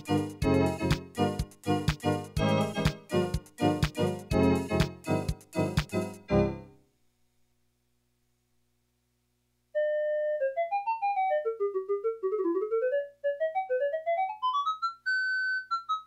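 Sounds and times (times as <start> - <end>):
keyboard playing fast melody: 0.0 - 6.8, 9.8 - 16.0.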